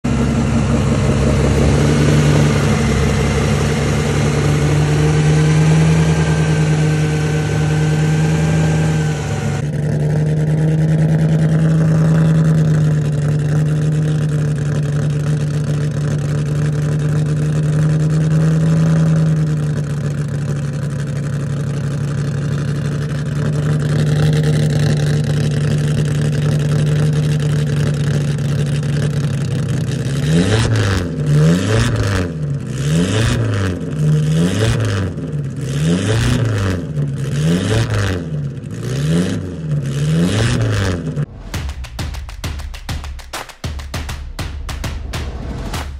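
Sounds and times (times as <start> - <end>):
racing engine running and revving: 0.0 - 45.9.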